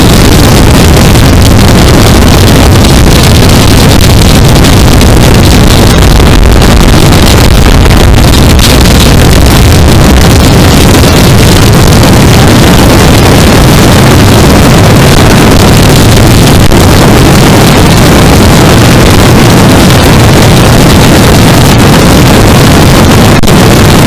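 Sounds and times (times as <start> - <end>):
motorcycle engine drone: 0.0 - 24.0
wind rush on microphone: 0.0 - 24.0.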